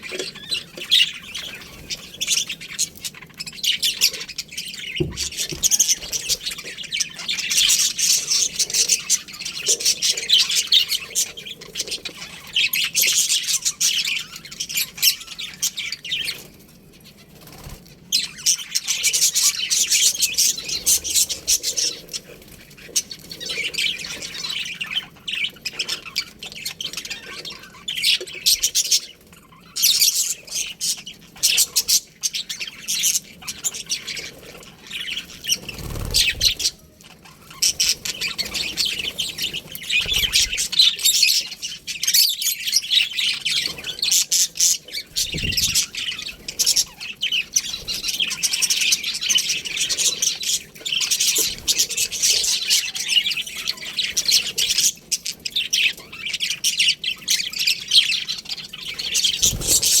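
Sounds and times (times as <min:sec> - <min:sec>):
budgerigars chattering and chirping: 0:00.0 - 1:00.0.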